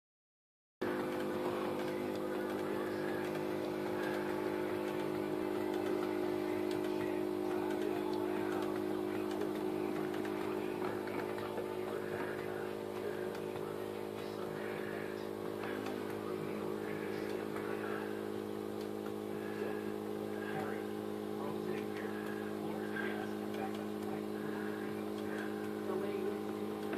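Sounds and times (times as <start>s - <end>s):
compressor electric buzz: 0.8s - 26.9s.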